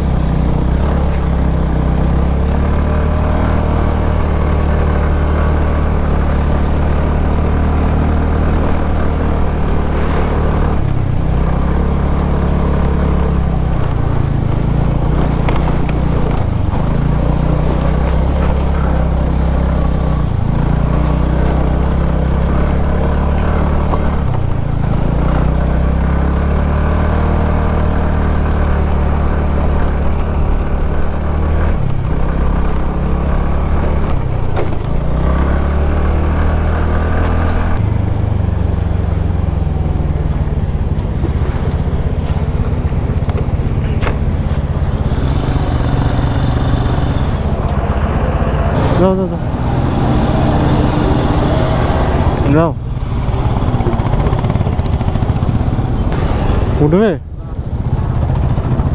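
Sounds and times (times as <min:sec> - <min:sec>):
small motorbike engine running: 0:00.0 - 0:49.6, 0:50.4 - 0:58.9.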